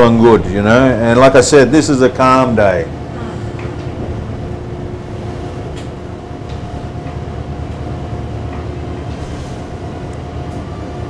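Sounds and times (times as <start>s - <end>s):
boat engines rumbling: 0.0s - 11.0s
faint steady whine: 0.0s - 11.0s.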